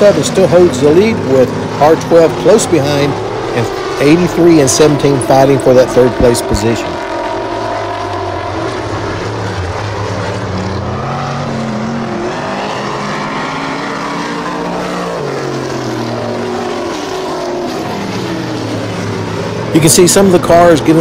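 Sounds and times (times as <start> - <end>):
race car engines: 0.0 - 21.0.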